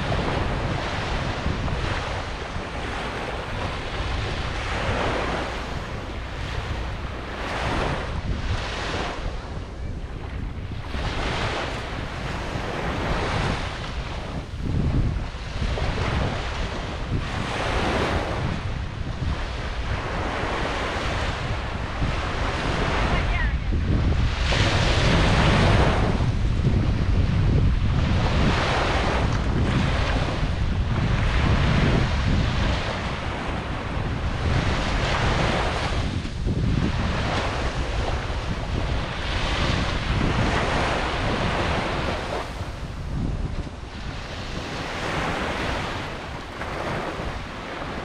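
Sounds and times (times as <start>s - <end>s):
waves washing onto beach: 0.0s - 48.0s
wind rumbling on microphone: 0.0s - 48.0s.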